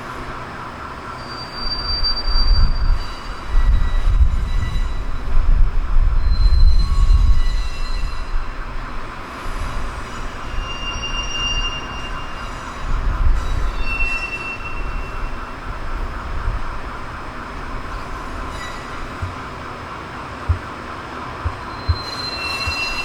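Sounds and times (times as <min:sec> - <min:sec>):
high wheel squeals: 0:00.0 - 0:20.0, 0:21.5 - 0:23.0
train rumbling on rails: 0:00.0 - 0:23.0.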